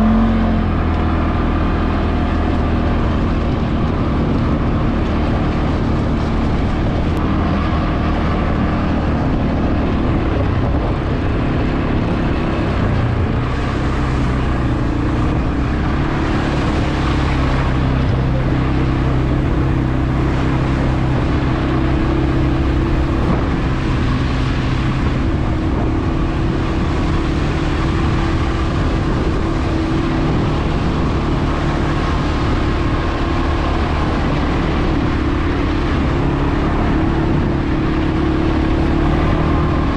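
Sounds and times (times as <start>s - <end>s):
atv engine running: 0.0s - 39.9s
rushing noise: 0.0s - 39.9s.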